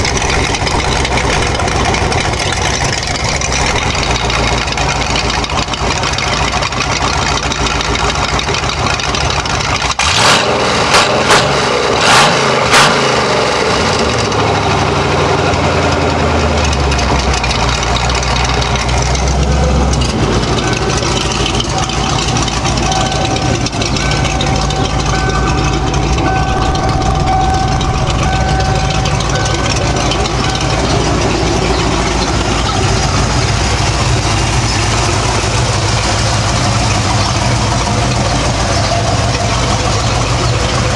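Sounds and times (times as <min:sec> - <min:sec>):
car engine idling: 0:00.0 - 0:40.9
engine throttle blips: 0:00.0 - 0:40.9.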